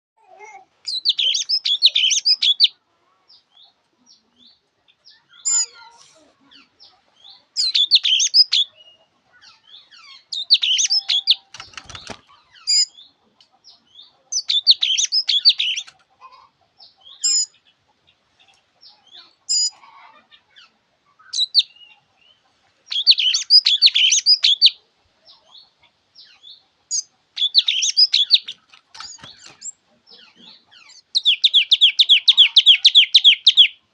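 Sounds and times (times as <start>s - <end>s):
songbird twittering song: 0.8s - 33.9s.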